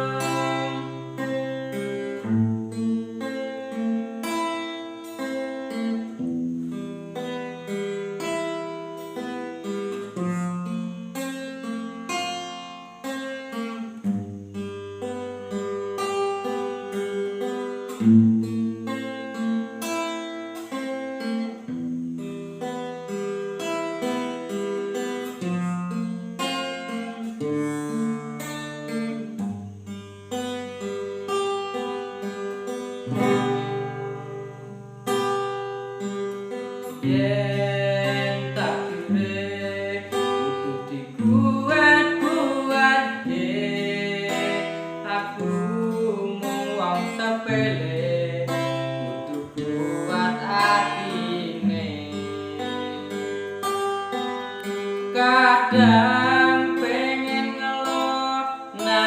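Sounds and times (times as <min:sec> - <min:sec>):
plucked-string melody: 0:00.0 - 0:59.0.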